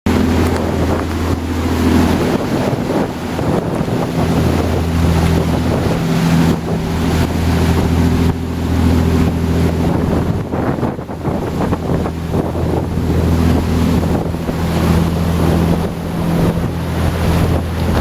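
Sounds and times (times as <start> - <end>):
boat engine running: 0.0 - 18.0
water along hull: 0.0 - 18.0
wind buffeting microphone: 0.1 - 18.0.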